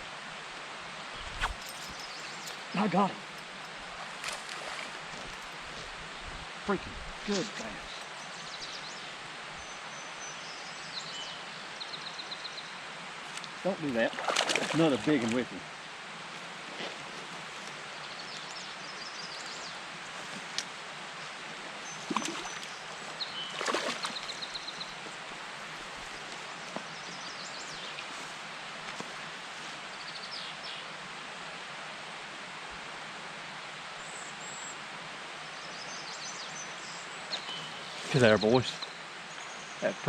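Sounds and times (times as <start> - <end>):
outdoor background hiss: 0.0 - 40.0
small birds chirping: 1.1 - 15.6, 16.8 - 30.8, 35.6 - 40.0.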